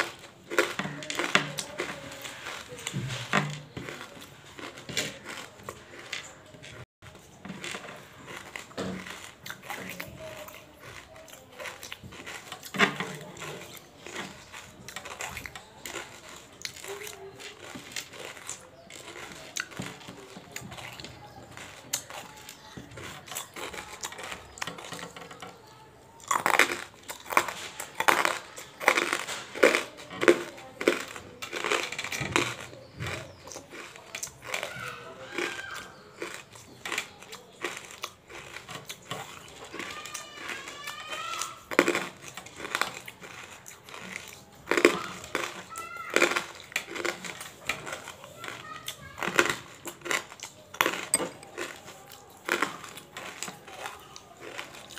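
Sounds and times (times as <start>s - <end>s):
crunching crystals between teeth: 0.0s - 54.9s.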